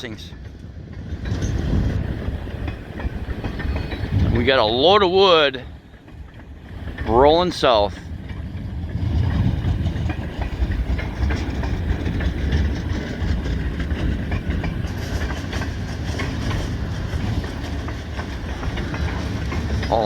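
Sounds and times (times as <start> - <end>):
train wheels clacking over rails: 0.0 - 20.0.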